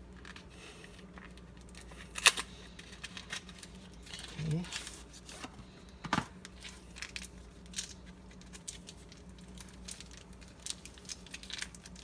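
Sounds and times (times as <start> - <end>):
foil wrapper crinkling and tearing: 0.0 - 5.5, 6.4 - 12.0.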